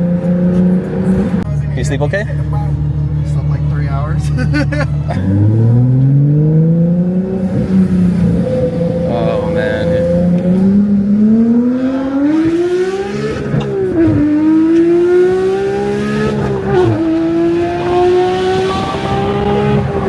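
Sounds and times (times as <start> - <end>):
sports car accelerating hard: 0.0 - 1.4, 4.4 - 20.0.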